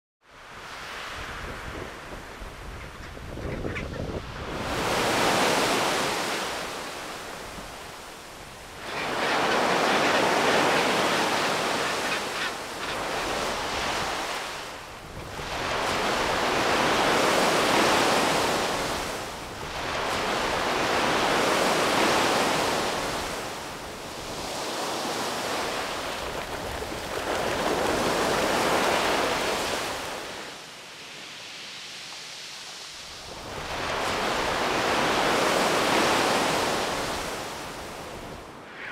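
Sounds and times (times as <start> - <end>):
ocean surf breaking on shore: 4.2 - 38.9.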